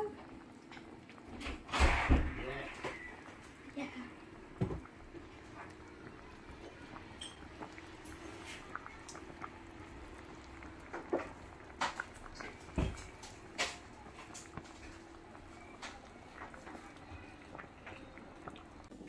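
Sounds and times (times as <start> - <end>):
broth simmering with pops: 0.0 - 19.0.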